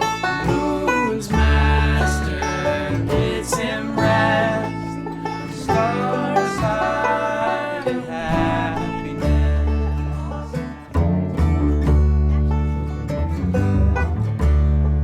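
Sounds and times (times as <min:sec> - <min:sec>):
acoustic guitar: 0:00.0 - 0:15.0
banjo: 0:00.0 - 0:15.0
double bass: 0:00.0 - 0:15.0
fiddle: 0:00.0 - 0:15.0.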